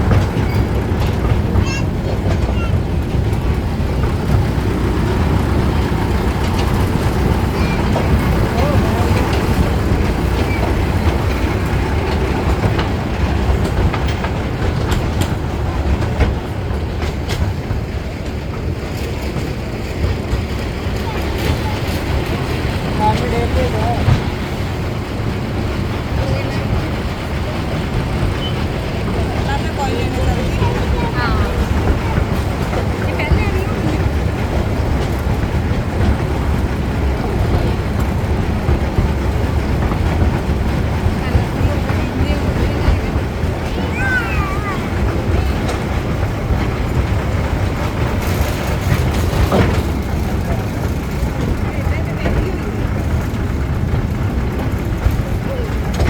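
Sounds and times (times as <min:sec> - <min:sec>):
toy train rumbling: 0:00.0 - 0:56.0
wheels clicking over rail joints: 0:00.0 - 0:56.0.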